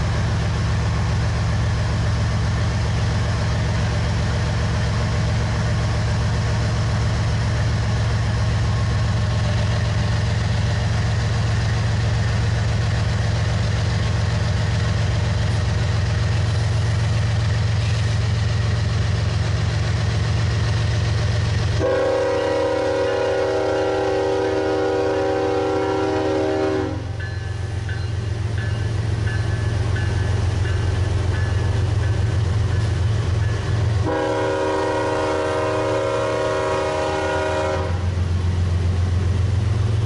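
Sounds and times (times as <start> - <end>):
diesel locomotive engines rumbling: 0.0 - 40.0.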